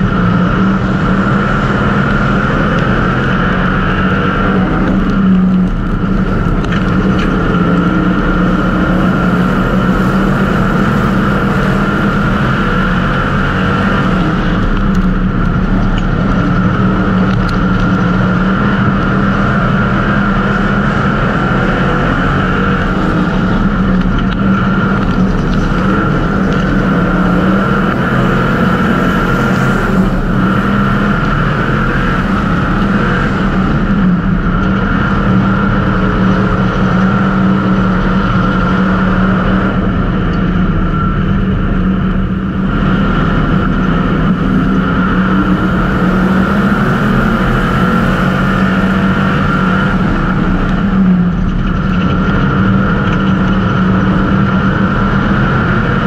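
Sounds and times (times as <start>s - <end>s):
race car engine droning: 0.0s - 56.0s.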